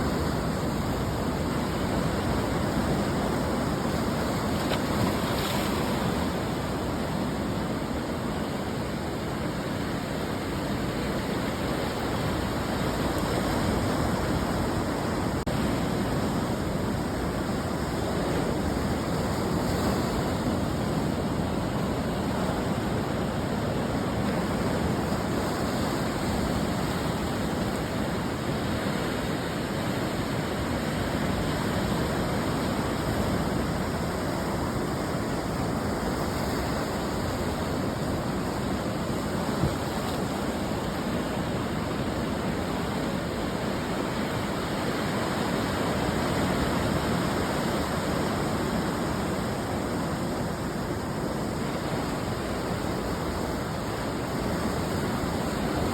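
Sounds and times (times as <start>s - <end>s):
ocean surf washing on shore: 0.0s - 55.9s.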